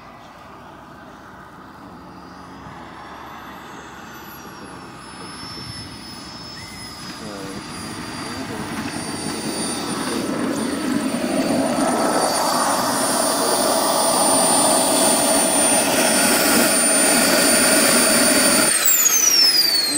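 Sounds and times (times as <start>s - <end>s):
model jet turbine whining: 0.0s - 19.9s.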